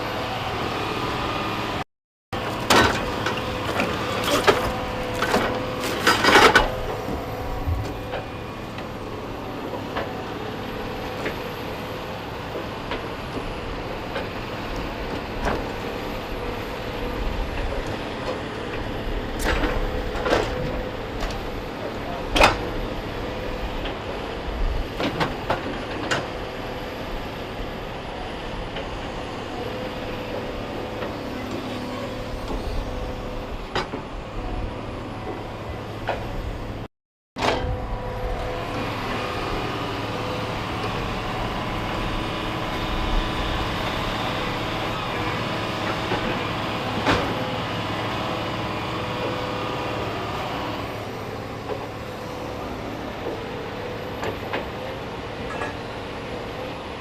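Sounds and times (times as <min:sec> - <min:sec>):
diesel engine running: 0:00.0 - 0:01.8, 0:02.4 - 0:57.0.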